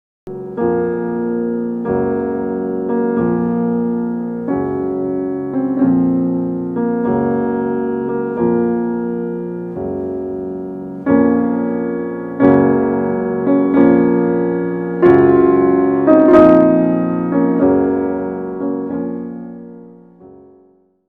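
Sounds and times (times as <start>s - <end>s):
slow solo piano: 0.3s - 21.0s.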